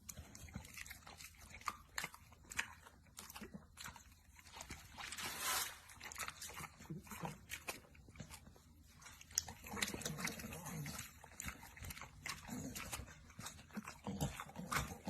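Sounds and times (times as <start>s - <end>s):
dog chewing with crunching: 0.0s - 15.0s.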